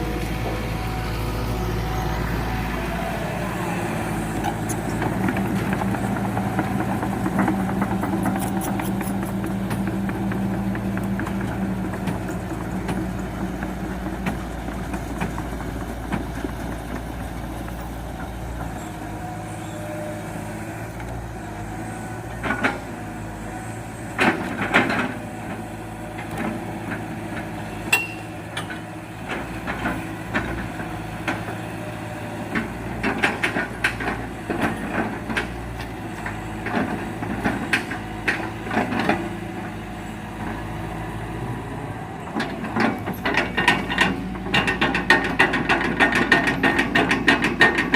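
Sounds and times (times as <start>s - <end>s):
diesel excavator running: 0.0s - 47.9s.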